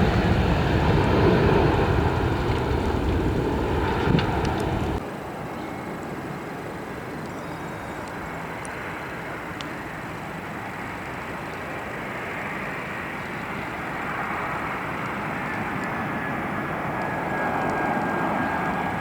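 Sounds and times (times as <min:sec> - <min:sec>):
airliner engines: 0:00.0 - 0:19.0.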